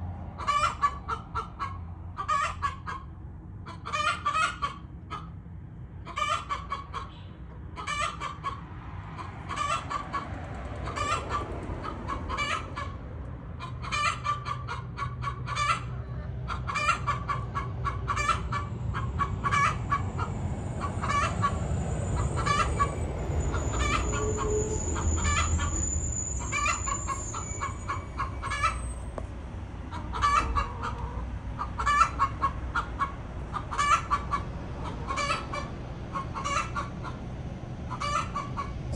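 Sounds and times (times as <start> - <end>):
hen clucking loudly: 0.4 - 5.3, 6.0 - 8.6, 9.2 - 13.0, 13.6 - 25.8, 26.5 - 28.8, 29.9 - 37.2, 37.9 - 38.9.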